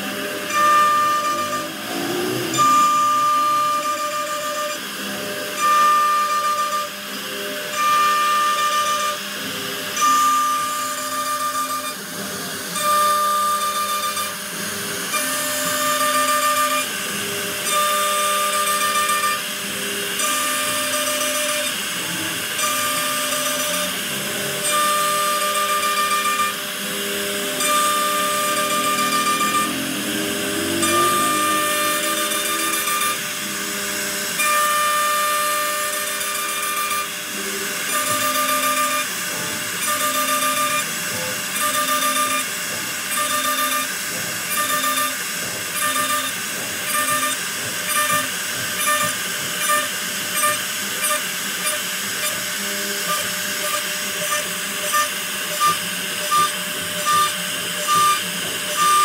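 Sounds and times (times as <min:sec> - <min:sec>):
router spindle whine: 0:00.0 - 0:59.0.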